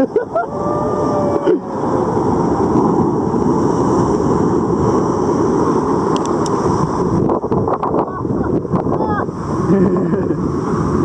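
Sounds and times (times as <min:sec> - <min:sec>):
ocean surf roaring: 0:00.0 - 0:11.0
wind buffeting microphone: 0:00.0 - 0:11.0.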